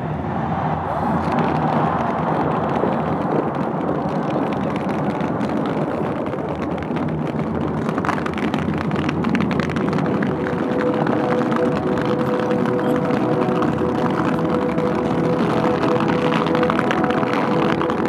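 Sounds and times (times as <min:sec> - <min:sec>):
steady low rumble: 0:00.0 - 0:18.0
fireworks crackling and popping: 0:00.5 - 0:18.0.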